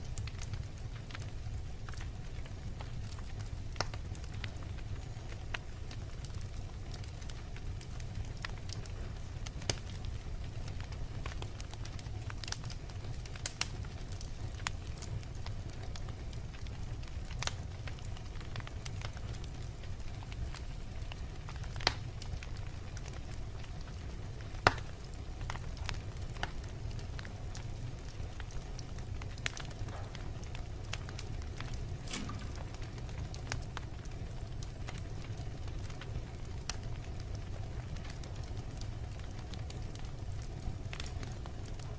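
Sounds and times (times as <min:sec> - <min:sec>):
fire crackling and popping: 0:00.0 - 0:41.9
fire rumbling in fireplace: 0:00.0 - 0:41.9.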